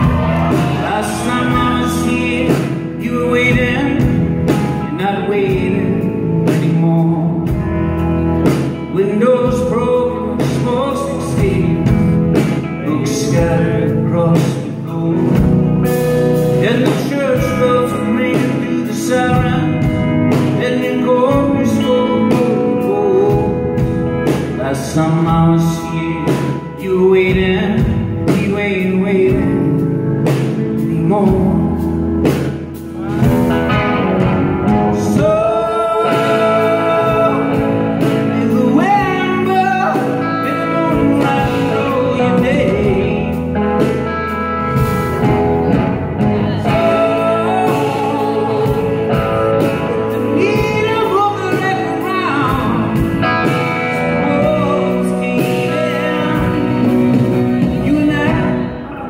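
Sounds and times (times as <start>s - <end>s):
drums: 0.0s - 59.0s
electric guitar: 0.0s - 59.0s
singing or lead guitar: 0.0s - 59.0s.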